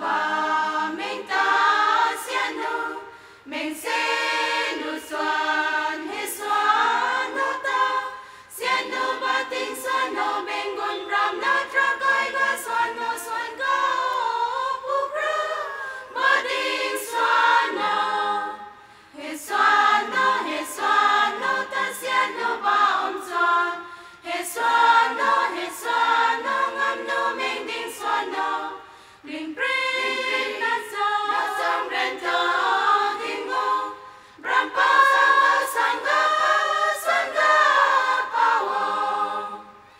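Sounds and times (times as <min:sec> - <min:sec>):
women's choir singing: 0:00.0 - 0:39.9.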